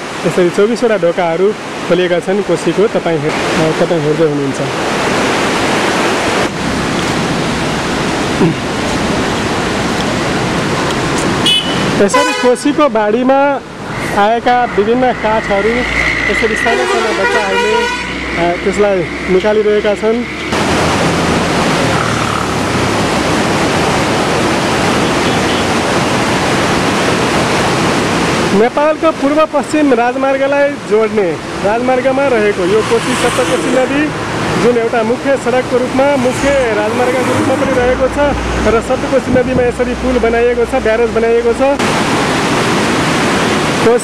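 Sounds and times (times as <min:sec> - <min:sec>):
river rushing through gates: 0:00.0 - 0:44.0.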